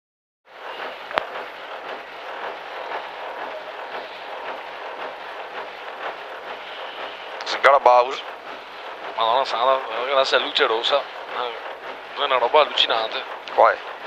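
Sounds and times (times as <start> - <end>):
car engine idling: 0.6 - 14.0.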